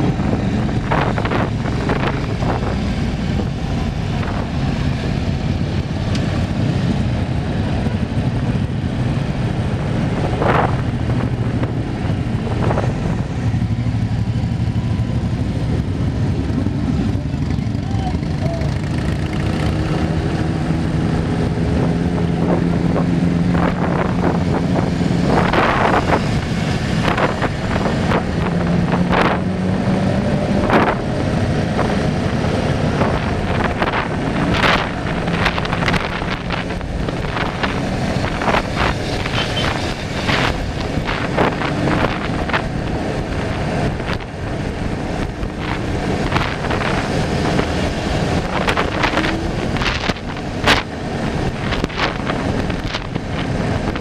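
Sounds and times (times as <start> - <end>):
passing road traffic: 0.0 - 54.0
wind rushing over microphone: 0.0 - 54.0.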